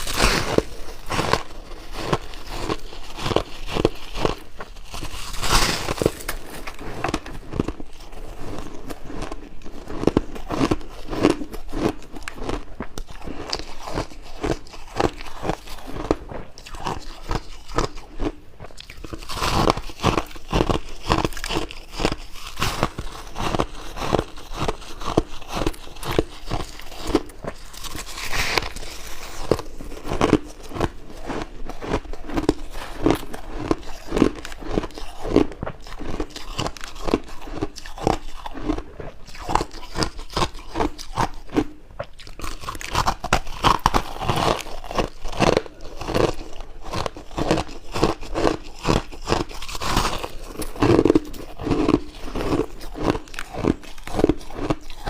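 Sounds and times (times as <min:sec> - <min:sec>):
chewing ice crunches: 0:00.0 - 0:55.0.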